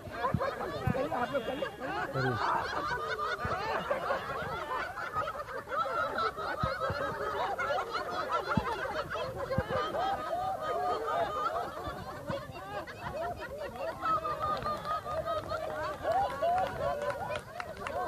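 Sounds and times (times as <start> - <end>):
group of people laughing: 0.0 - 18.0
people mimicking hens clucking: 0.0 - 18.0.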